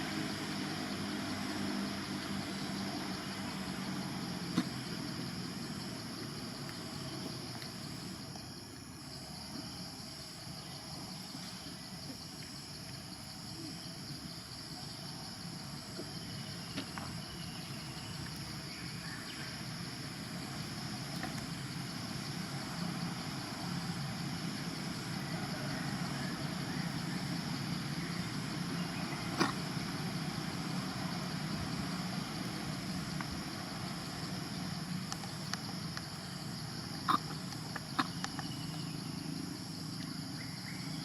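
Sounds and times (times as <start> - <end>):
low rumble of distant traffic: 0.0 - 41.0.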